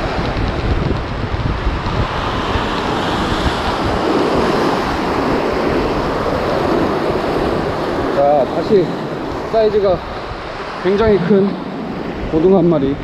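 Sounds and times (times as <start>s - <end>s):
surf breaking against rocks: 0.0s - 12.5s
wind buffeting microphone: 0.0s - 13.0s.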